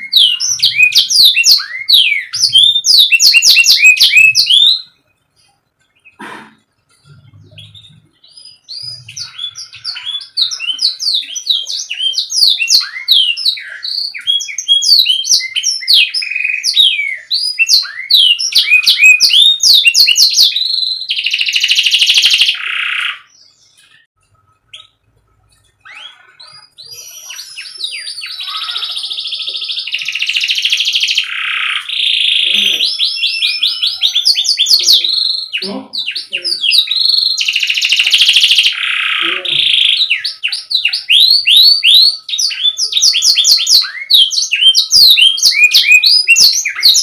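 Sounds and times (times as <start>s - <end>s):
canary singing: 0.0s - 47.0s.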